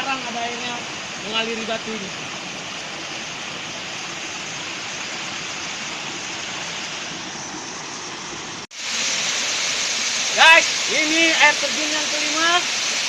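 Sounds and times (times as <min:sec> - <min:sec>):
waterfall rushing over rock: 0:00.0 - 0:13.0.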